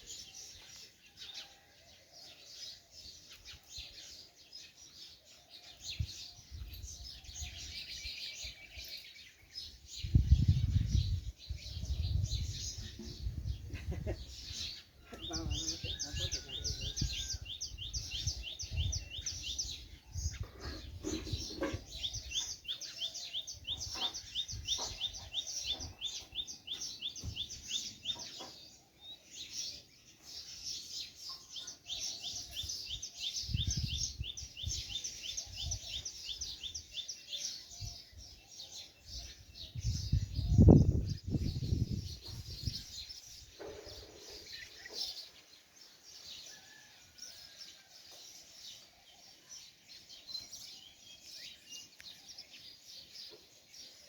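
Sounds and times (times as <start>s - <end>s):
small birds chirping in a well: 0.0s - 54.0s.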